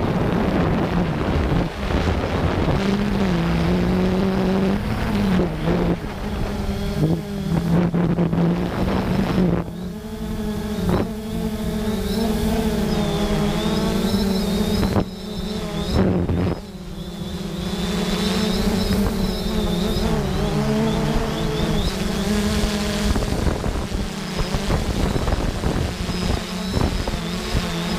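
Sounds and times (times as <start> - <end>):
drone motors humming: 0.0 - 27.9
high whine: 0.0 - 27.9
wind rumble on microphone: 0.0 - 27.9.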